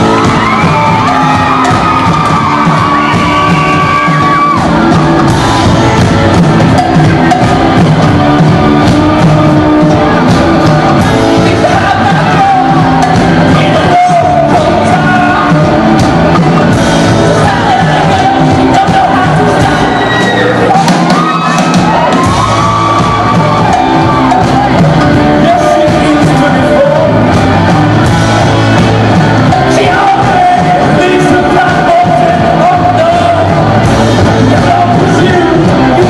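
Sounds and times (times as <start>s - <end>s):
person singing: 0.0s - 36.0s
rock band playing live: 0.0s - 36.0s.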